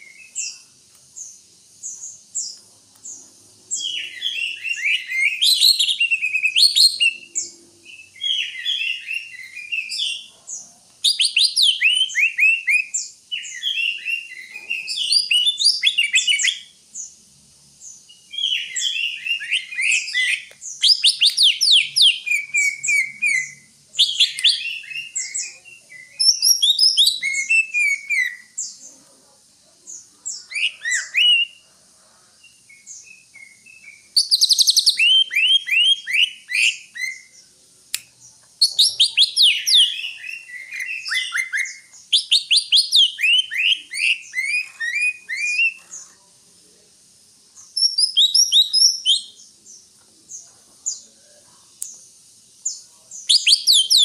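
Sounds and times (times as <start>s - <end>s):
bird singing chattering whistles: 0.0s - 17.2s, 17.8s - 28.9s, 29.9s - 31.6s, 32.5s - 46.1s, 47.7s - 49.5s, 52.6s - 54.0s.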